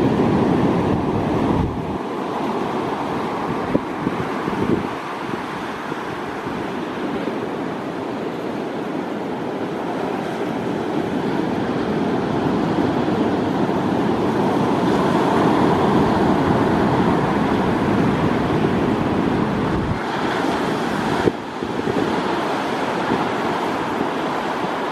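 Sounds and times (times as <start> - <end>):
steady rushing outdoor noise: 0.0 - 24.9.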